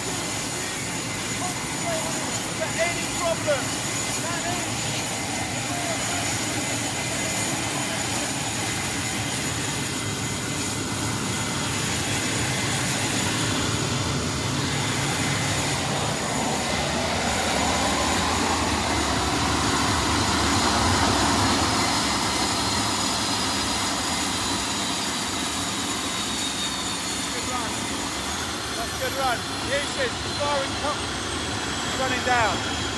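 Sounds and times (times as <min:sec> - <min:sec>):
high whining tones: 0:00.0 - 0:32.9
jet engine rushing roar: 0:00.0 - 0:32.9.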